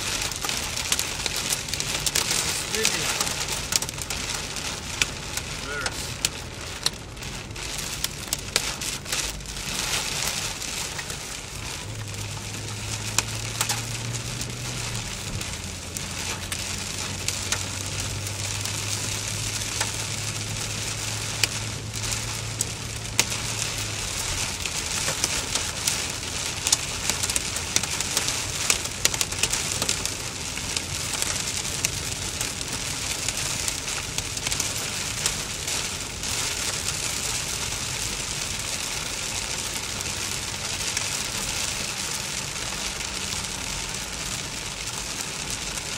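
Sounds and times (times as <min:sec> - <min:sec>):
heavy rain on car roof: 0:00.0 - 0:45.9.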